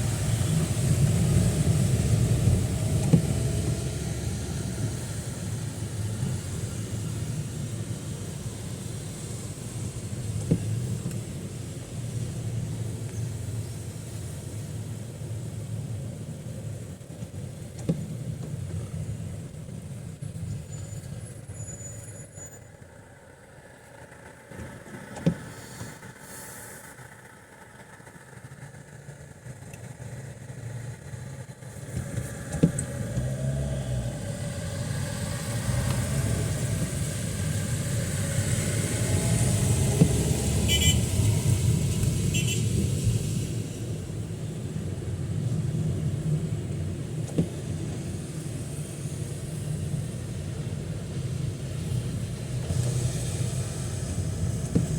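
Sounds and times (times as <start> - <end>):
vehicles driving past on wet street: 0.0 - 54.9.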